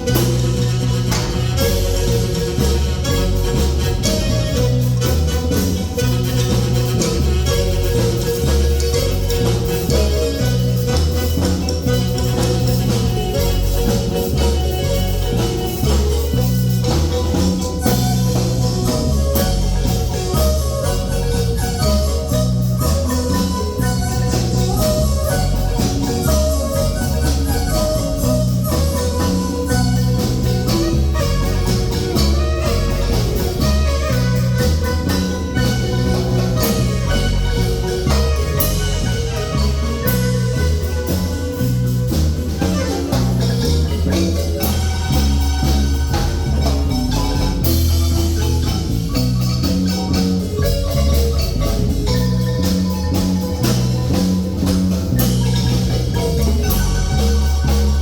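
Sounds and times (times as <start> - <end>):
marimba band music: 0.0 - 58.0.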